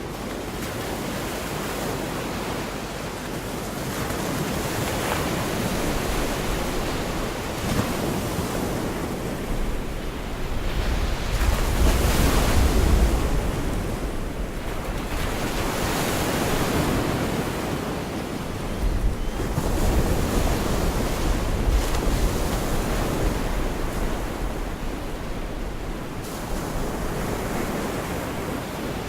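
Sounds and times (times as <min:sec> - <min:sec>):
surf washing onto beach: 0:00.0 - 0:29.0
wind buffeting microphone: 0:03.8 - 0:29.0.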